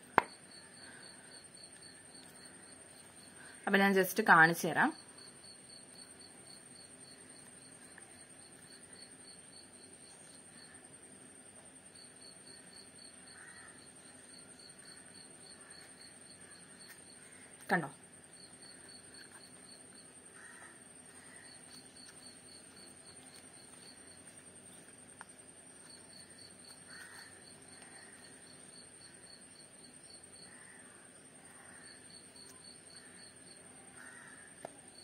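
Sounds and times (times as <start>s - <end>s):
insect chirping in rapid pulses: 0.0s - 35.0s.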